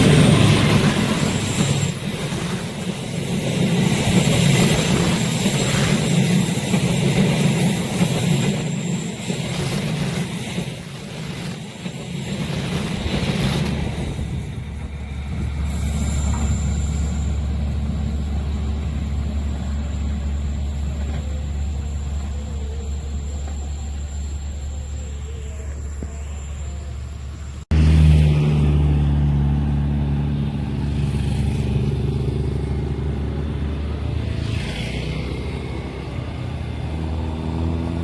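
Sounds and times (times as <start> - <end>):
train rumble: 0.0 - 38.0.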